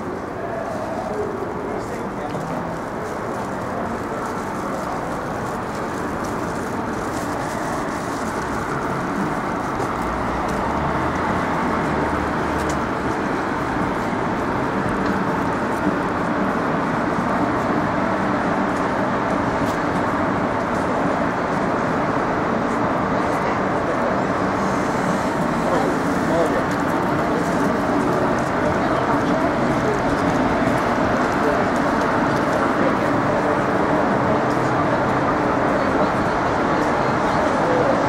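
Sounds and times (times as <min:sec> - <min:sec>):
city street traffic: 0:00.0 - 0:38.0
low vehicle engine hum: 0:00.0 - 0:38.0.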